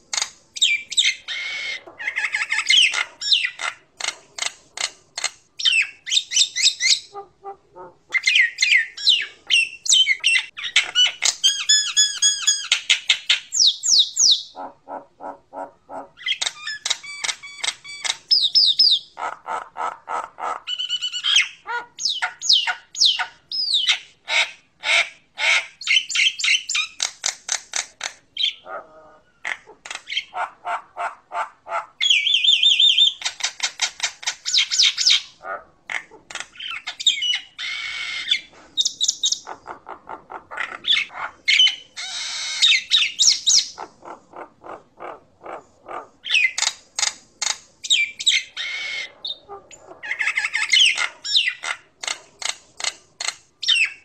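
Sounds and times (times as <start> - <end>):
bird squawks: 0.1 - 54.0.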